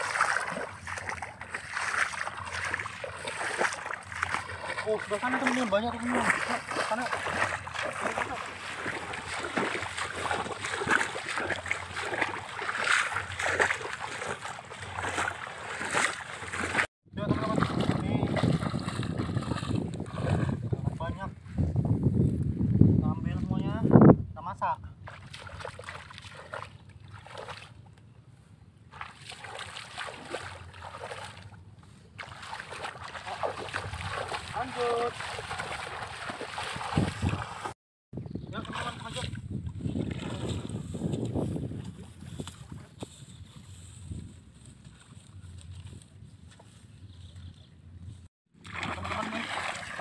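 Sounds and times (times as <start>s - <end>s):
legs wading through water: 0.0s - 21.1s, 25.0s - 28.0s, 28.8s - 37.8s, 38.5s - 50.0s.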